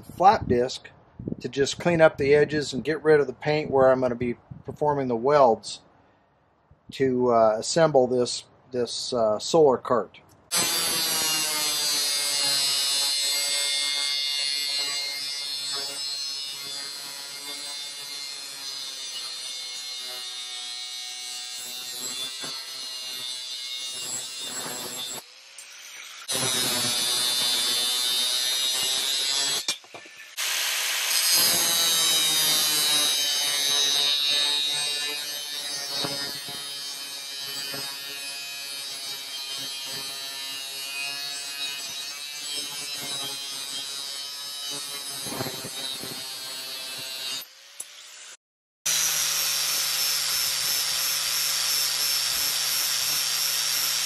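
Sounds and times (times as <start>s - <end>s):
angle grinder cutting steel: 10.5s - 54.0s.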